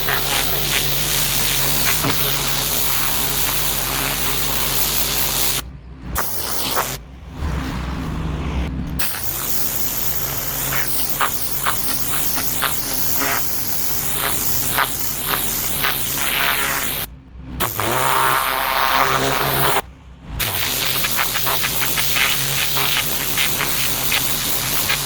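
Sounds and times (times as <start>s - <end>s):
pressure washer motor hum: 0.0s - 7.0s, 8.9s - 19.8s, 20.4s - 25.0s
pressure washer spray hiss: 0.0s - 7.0s, 9.0s - 19.8s, 20.4s - 25.0s.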